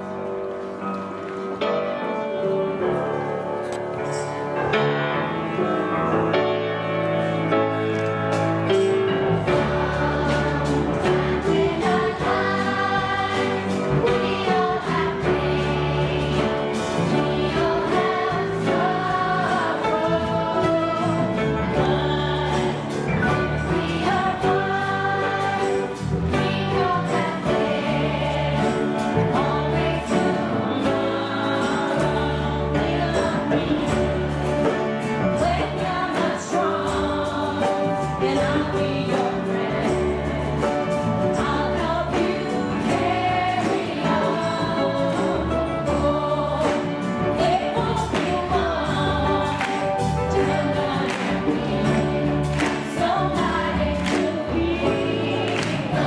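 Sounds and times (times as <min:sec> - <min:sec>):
acoustic guitars strumming: 0:08.3 - 0:56.0
children's choir singing: 0:08.4 - 0:56.0.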